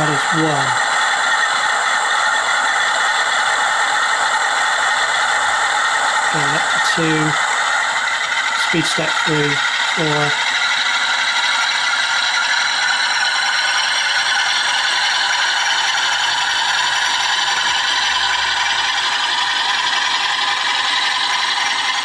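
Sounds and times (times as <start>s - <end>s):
diesel engine sound from small speaker: 0.0s - 22.0s
model train running on track: 0.0s - 22.0s.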